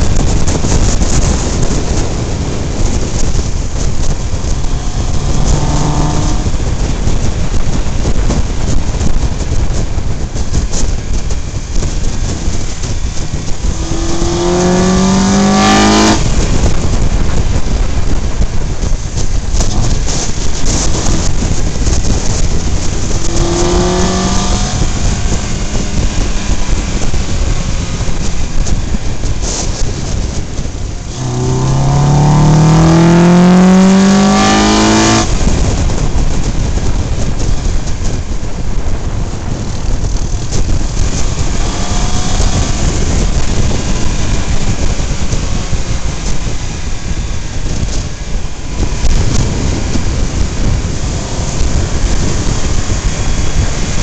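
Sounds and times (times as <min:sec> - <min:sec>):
vehicle engine accelerating: 0:00.0 - 0:54.0
wind rush and road noise: 0:00.0 - 0:54.0.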